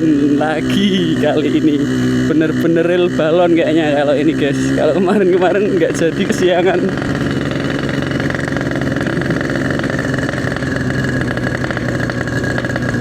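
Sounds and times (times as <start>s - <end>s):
two-stroke engine running: 0.0s - 13.0s.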